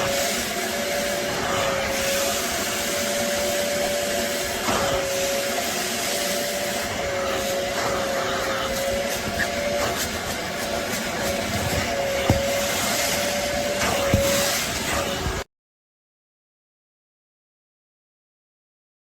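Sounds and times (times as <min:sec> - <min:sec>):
upholstery cleaner motor and suction: 0:00.0 - 0:15.5.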